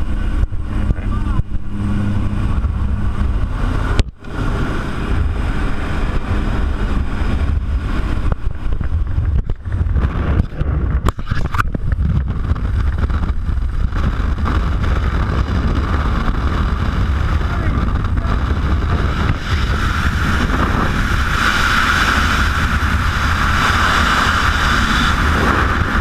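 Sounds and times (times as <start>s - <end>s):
plane engines and propellers: 0.0s - 26.0s
wind buffeting microphone: 0.0s - 26.0s
wind rushing: 0.0s - 26.0s.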